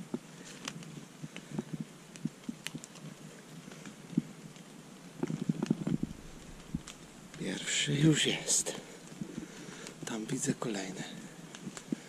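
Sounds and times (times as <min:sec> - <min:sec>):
wet leaves crackling and rustling: 0:00.0 - 0:12.0.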